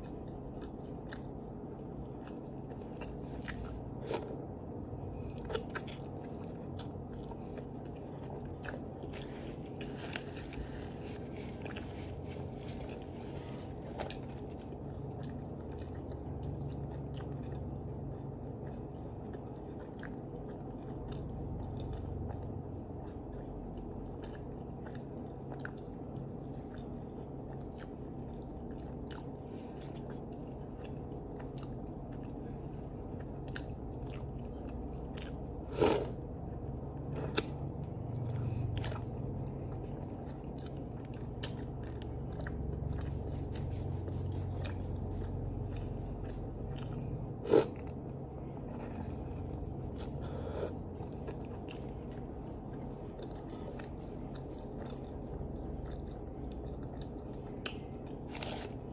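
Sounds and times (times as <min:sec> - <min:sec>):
low room hum: 0:00.0 - 0:58.9
person chewing wet bread: 0:00.0 - 0:58.9.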